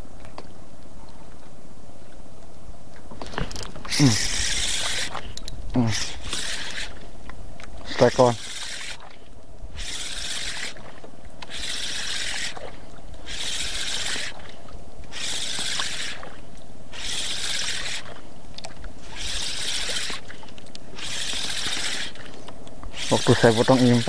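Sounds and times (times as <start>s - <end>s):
water lapping against boat hull: 3.2s - 24.0s.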